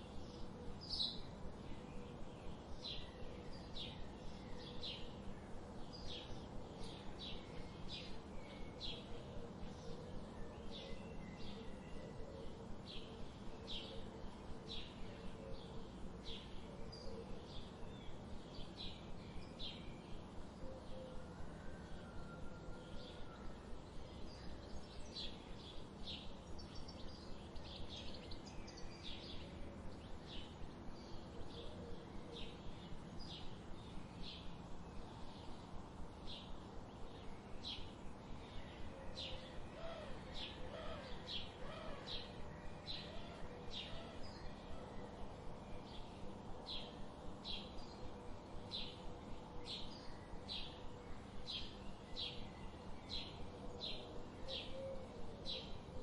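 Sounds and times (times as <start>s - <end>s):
low background noise: 0.0s - 56.0s.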